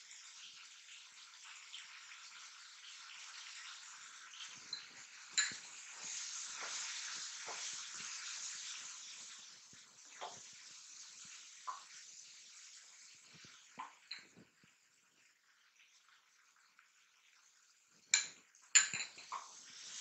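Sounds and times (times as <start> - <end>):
vegetables sizzling in a pan: 0.0 - 14.5, 18.1 - 20.0.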